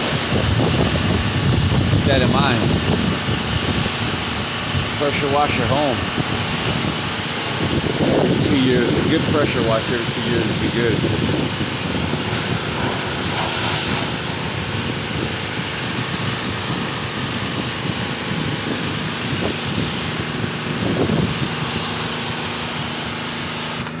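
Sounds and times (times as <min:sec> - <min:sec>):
pressure washer spraying: 0:00.0 - 0:24.0.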